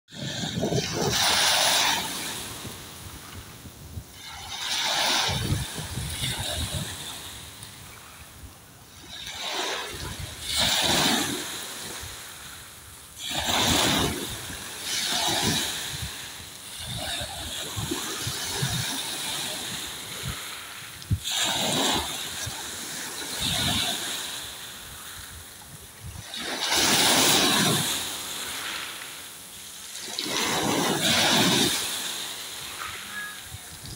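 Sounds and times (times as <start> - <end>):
sea waves splashing on shore: 0.1 - 33.9.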